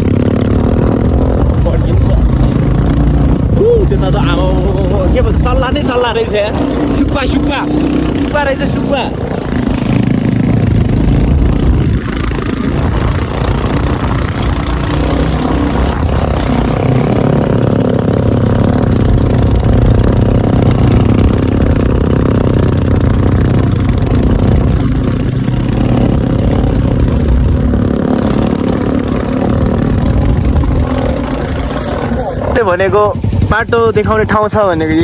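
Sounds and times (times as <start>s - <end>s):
rush of wind noise: 0.0s - 34.0s
motorcycle engine running: 0.0s - 35.0s.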